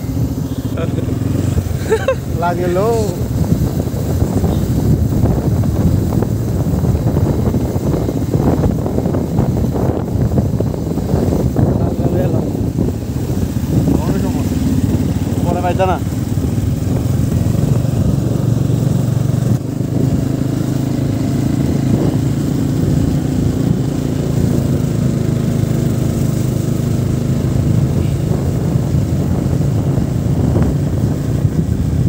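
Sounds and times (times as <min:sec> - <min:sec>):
motorcycle engine running: 0:00.0 - 0:32.0
wind on microphone: 0:00.0 - 0:32.0.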